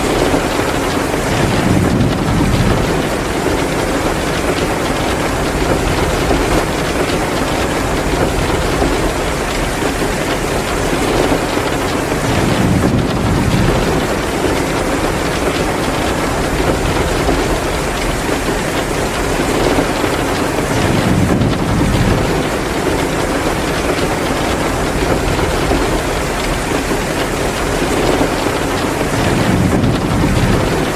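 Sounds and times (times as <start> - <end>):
heavy rain pouring: 0.0 - 30.9
wood fire crackling: 0.0 - 30.9.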